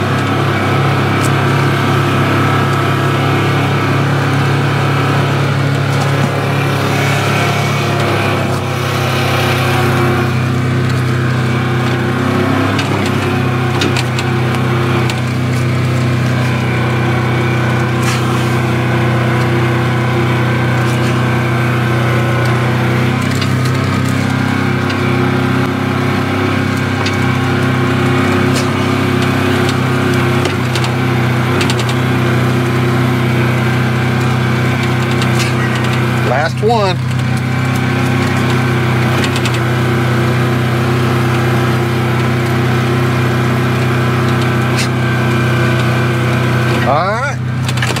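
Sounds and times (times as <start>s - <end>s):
utility vehicle engine running: 0.0s - 48.0s.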